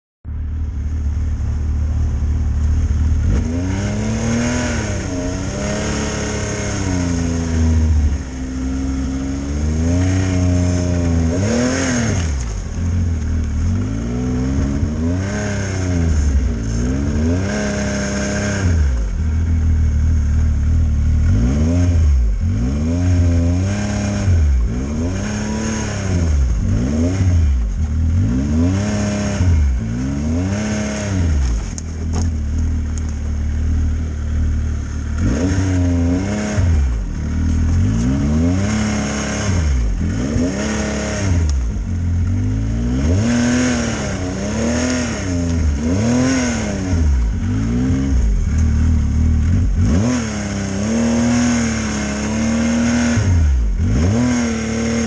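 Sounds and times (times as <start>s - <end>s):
snowmobile engine revving: 1.6s - 55.0s.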